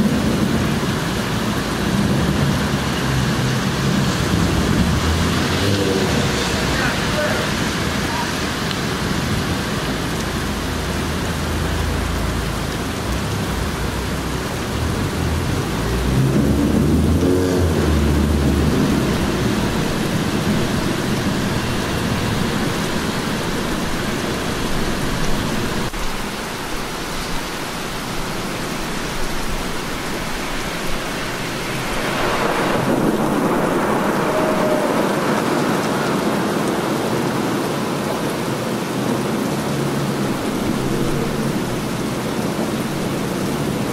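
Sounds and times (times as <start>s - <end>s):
thunder rumbling: 0.0s - 26.2s, 28.7s - 37.6s, 39.6s - 43.9s
heavy rain falling: 0.0s - 43.9s.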